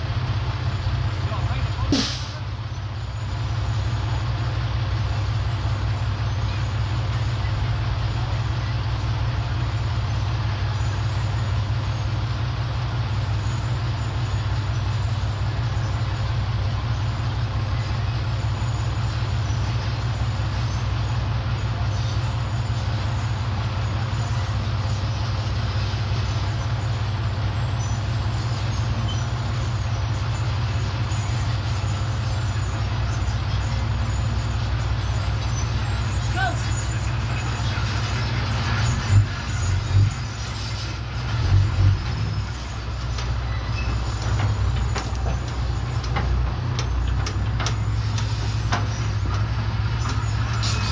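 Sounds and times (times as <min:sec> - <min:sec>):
bulldozer diesel engine droning: 0:00.0 - 0:50.9.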